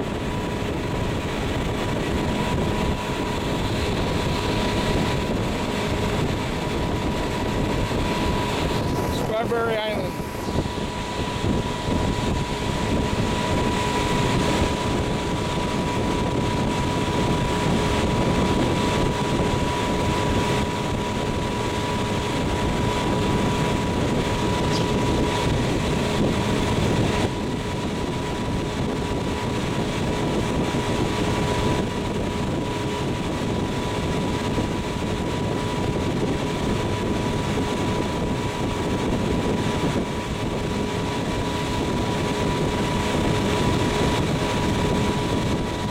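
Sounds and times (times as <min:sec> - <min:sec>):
motorboat engine running: 0:00.0 - 0:45.9
wind and water rushing: 0:00.0 - 0:45.9.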